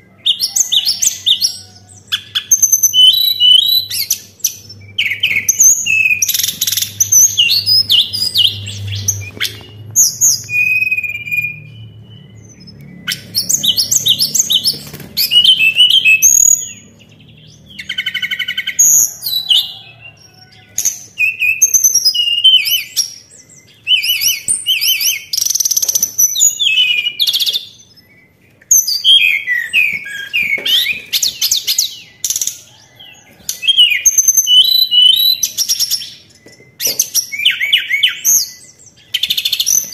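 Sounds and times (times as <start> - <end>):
bird chirping and whistling: 0.1 - 32.7, 33.5 - 39.9.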